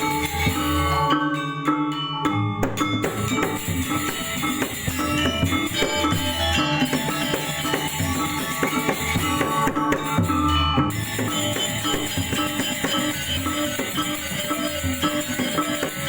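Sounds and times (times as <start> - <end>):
metallophones and gongs struck: 2.2 - 16.0
drumming: 2.6 - 16.0.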